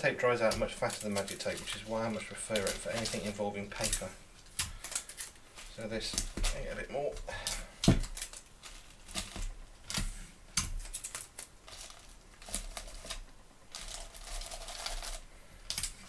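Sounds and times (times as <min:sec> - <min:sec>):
tape and paper crinkling: 0:00.0 - 0:16.0.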